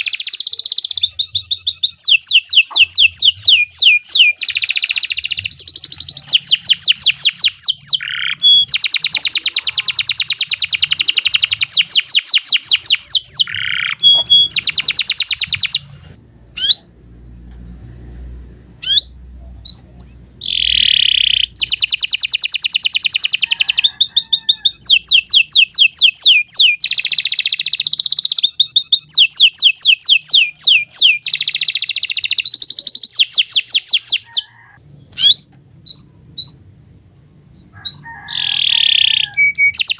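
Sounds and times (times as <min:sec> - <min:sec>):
canary singing trills: 0:00.0 - 0:15.9, 0:16.5 - 0:17.0, 0:18.8 - 0:36.7, 0:37.5 - 0:39.9.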